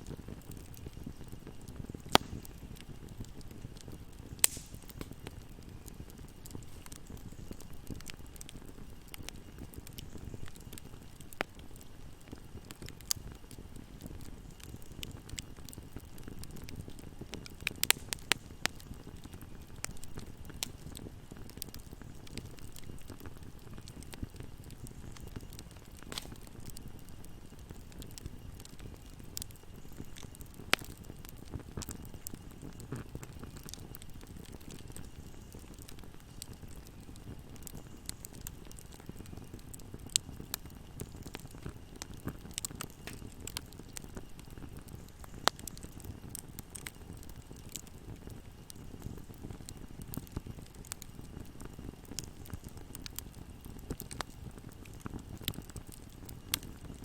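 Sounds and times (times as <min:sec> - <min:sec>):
fire flames rumbling and crackling: 0:00.0 - 0:57.0
fire popping: 0:00.0 - 0:57.0.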